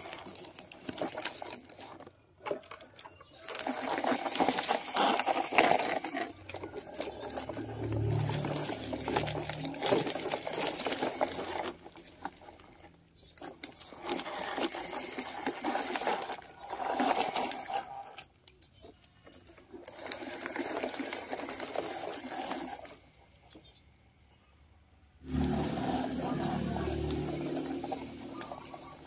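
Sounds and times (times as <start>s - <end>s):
plastic toy wheels rattling: 0.0s - 24.0s, 25.2s - 29.0s.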